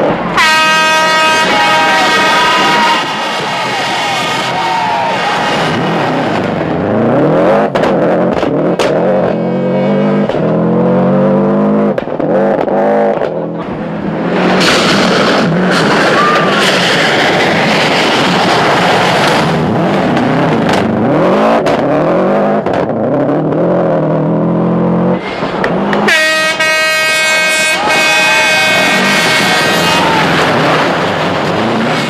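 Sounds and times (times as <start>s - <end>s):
rally car engine revving: 1.4s - 26.1s, 27.4s - 32.0s.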